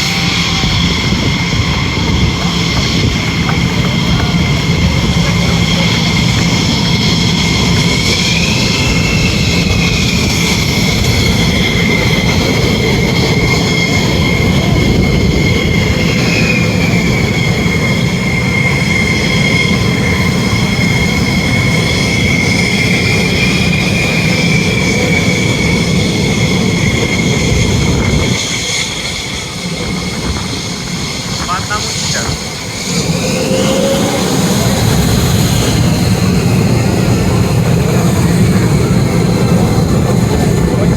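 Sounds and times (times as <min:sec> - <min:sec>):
jet engines roaring and whining: 0:00.0 - 0:40.9.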